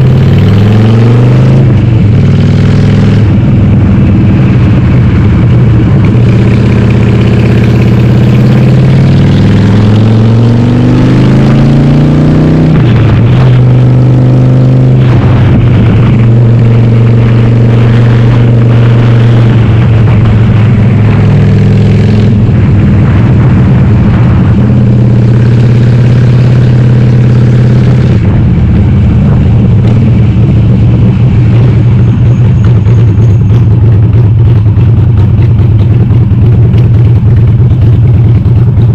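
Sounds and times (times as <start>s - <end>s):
loud motorcycle engine revving: 0.0s - 38.9s.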